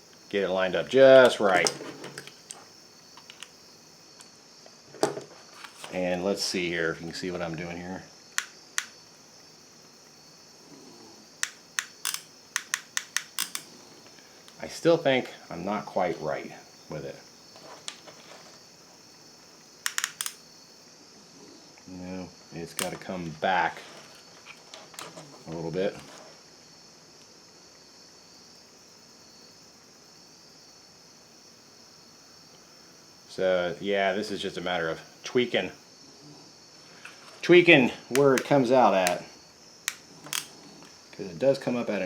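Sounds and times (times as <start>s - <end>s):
crickets chirring: 0.0s - 42.0s
low room noise: 0.0s - 42.0s.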